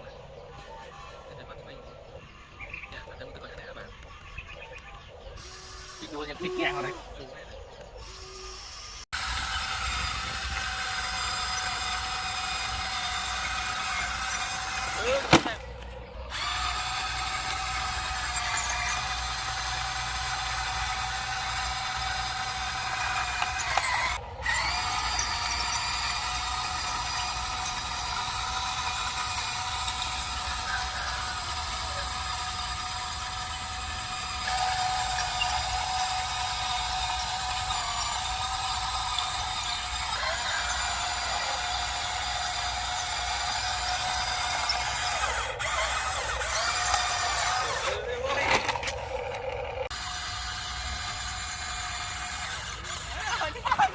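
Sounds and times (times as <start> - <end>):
electric motors and gearboxes whining: 0.0 - 53.9.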